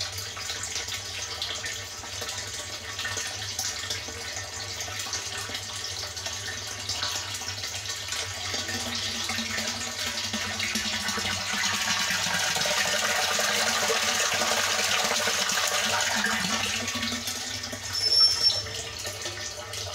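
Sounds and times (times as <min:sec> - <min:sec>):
water pouring into tank: 0:00.0 - 0:19.9.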